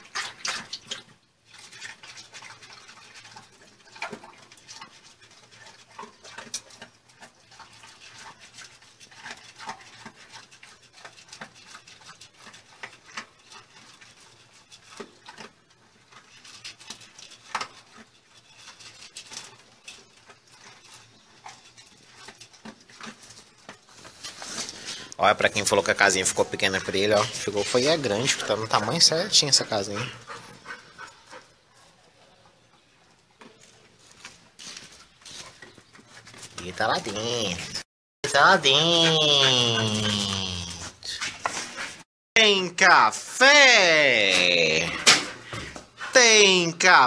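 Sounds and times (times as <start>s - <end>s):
dog chewing and crunching food: 0.0s - 42.1s, 42.7s - 47.0s.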